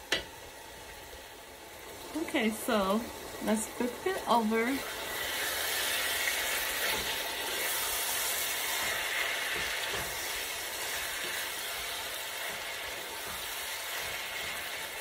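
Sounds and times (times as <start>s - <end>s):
ground beef sizzling in pot: 0.0s - 15.0s.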